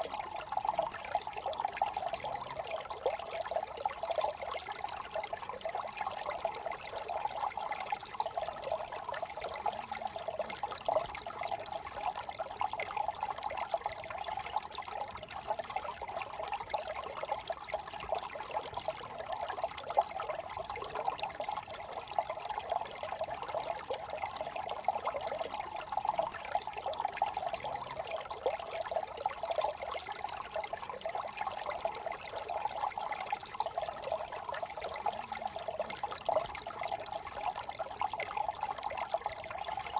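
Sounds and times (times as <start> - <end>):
brook trickling over stones: 0.0 - 39.9.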